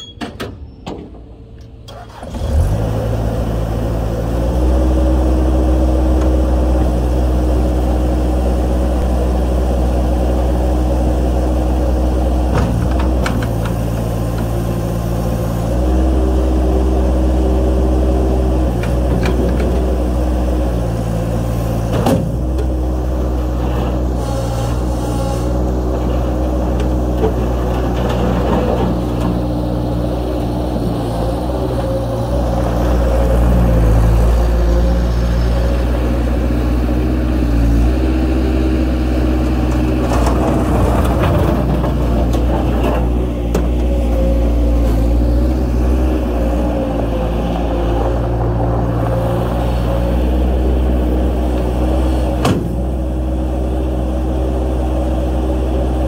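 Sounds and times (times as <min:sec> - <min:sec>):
diesel engine running: 0:01.0 - 0:56.0.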